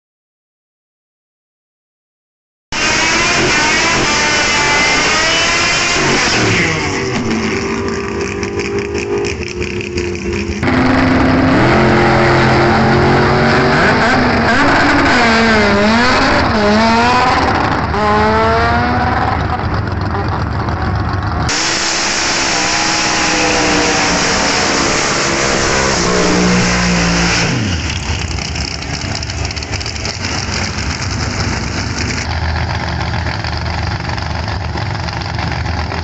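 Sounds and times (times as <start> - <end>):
drag car engines revving: 2.8 - 36.0.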